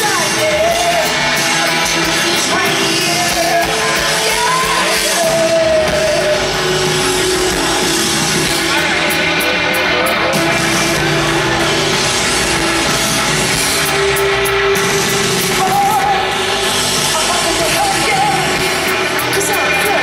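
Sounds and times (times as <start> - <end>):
person singing: 0.0 - 12.9, 15.1 - 20.0
rock band playing live: 0.0 - 20.0.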